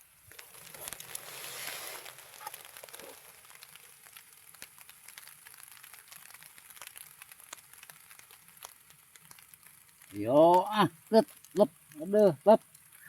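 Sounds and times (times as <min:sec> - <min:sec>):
raindrops ticking: 0:00.0 - 0:13.0
steady hiss of drizzle: 0:00.0 - 0:13.0.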